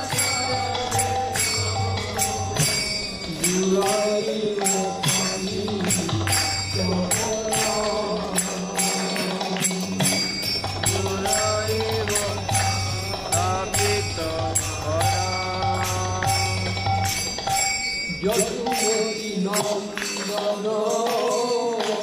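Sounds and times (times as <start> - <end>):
voices singing devotional song: 0.0 - 17.0, 18.1 - 22.0
hand cymbal strikes: 0.0 - 22.0.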